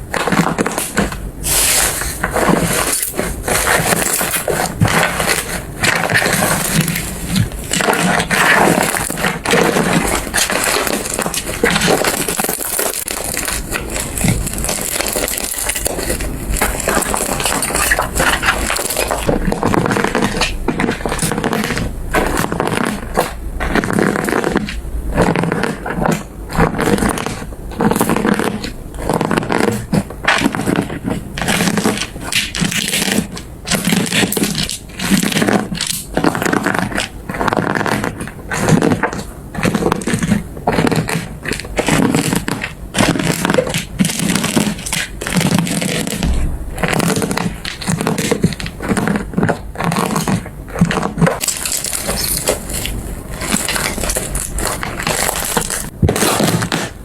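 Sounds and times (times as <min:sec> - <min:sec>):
slime squishing: 0:00.0 - 0:57.0.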